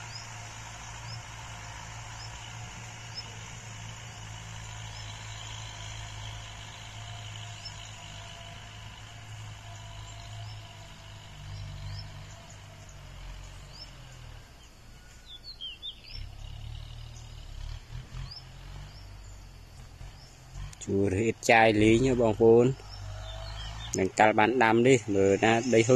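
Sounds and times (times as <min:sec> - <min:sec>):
bird chirping: 0:00.0 - 0:25.9
distant tractor engine droning: 0:00.0 - 0:25.9.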